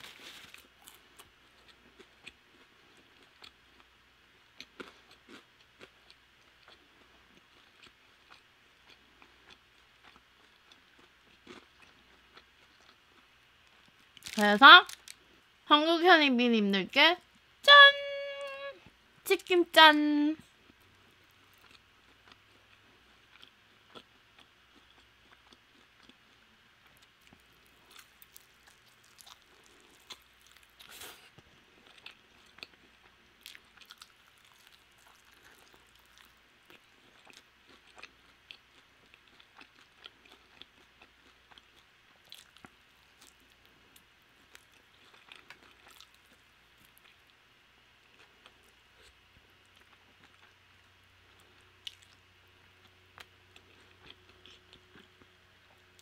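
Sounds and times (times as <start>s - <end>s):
chewing crispy chicken: 0.0s - 15.6s, 20.4s - 56.0s.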